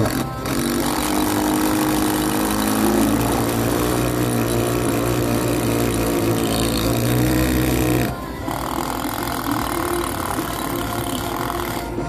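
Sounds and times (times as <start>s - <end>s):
power drills whining: 0.0s - 12.0s.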